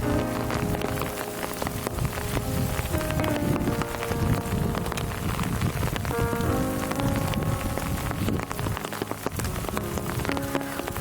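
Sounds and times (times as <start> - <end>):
heavy rain falling: 0.0 - 11.0
soft music of long held notes: 0.0 - 11.0.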